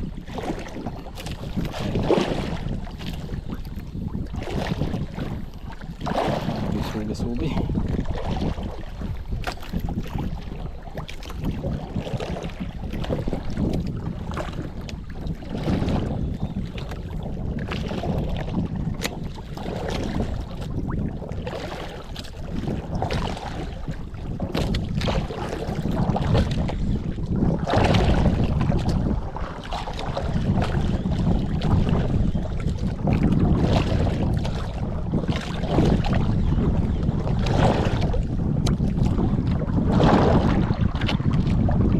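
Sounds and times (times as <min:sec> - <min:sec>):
water sloshing against boat hull: 0:00.0 - 0:41.9
wind buffeting microphone: 0:00.0 - 0:41.9.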